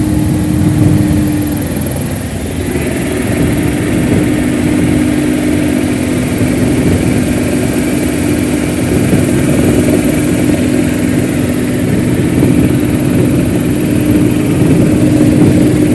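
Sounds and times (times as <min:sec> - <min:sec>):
helicopter engines and rotor: 0:00.0 - 0:15.9.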